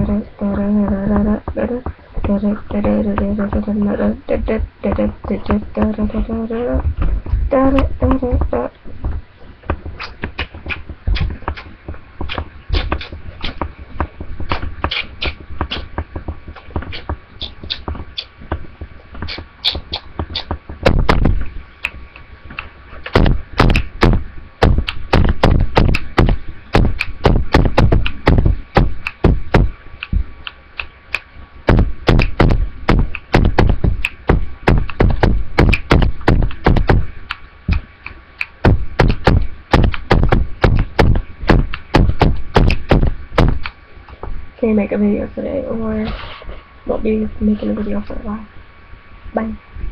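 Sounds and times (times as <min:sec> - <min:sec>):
person beatboxing: 0:00.0 - 0:43.8.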